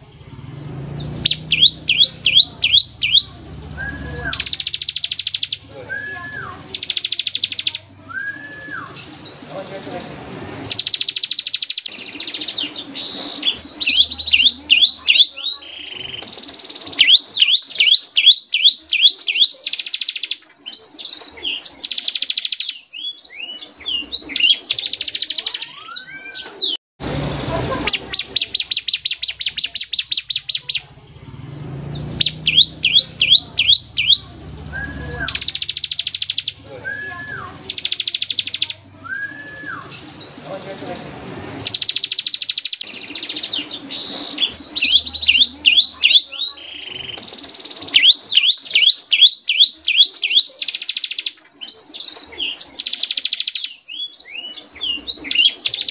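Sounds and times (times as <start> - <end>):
bird singing fast trills: 0.0 - 55.9.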